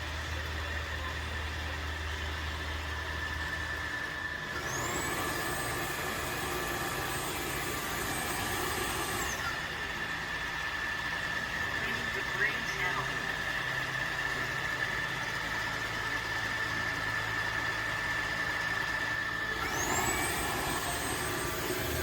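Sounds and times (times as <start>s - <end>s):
vacuum motor whine: 0.0s - 22.0s
higher whine spinning up: 1.4s - 22.0s.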